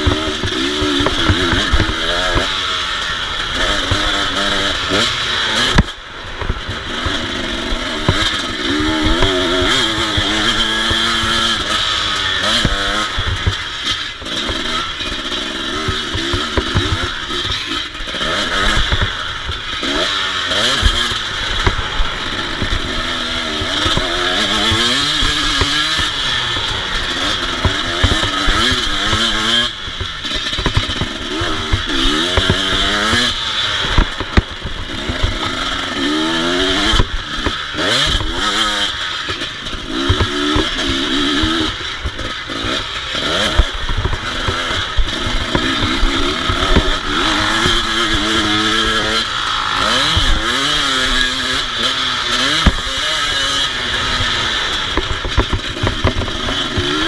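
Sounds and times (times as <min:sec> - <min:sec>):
motocross engine revving: 0:00.0 - 0:57.0
steady rushing noise: 0:00.0 - 0:57.0.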